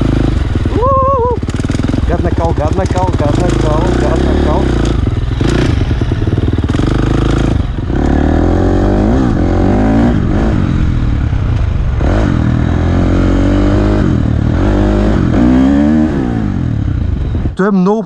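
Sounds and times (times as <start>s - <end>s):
dirt bike engine revving: 0.0s - 17.6s.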